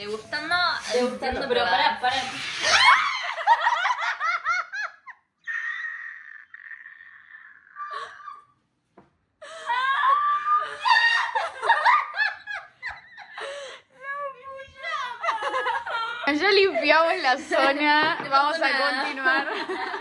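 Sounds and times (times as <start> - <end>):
women laughing: 0.9 - 8.5, 9.4 - 18.0, 18.6 - 20.0.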